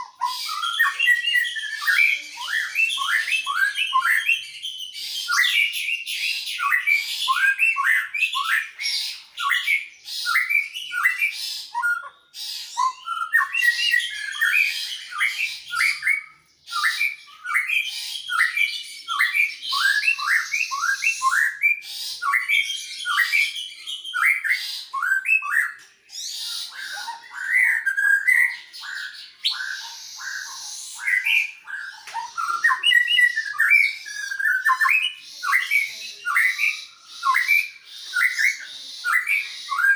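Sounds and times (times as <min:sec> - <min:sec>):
birds singing whistled notes: 0:00.0 - 0:39.9.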